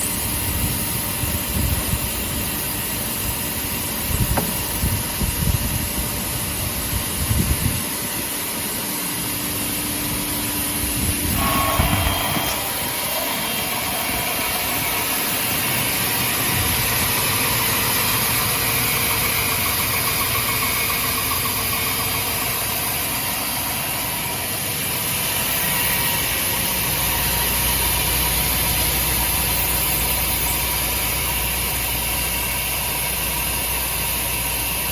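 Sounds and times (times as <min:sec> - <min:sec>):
band saw running: 0:00.0 - 0:34.9.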